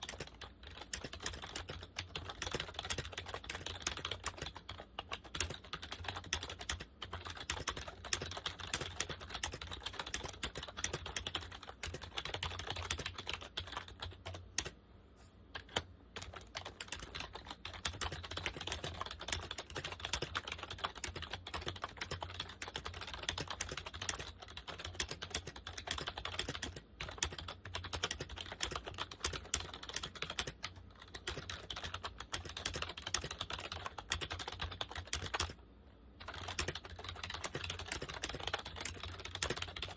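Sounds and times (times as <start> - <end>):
keyboard typing: 0.0 - 14.8, 15.6 - 35.6, 36.2 - 39.9.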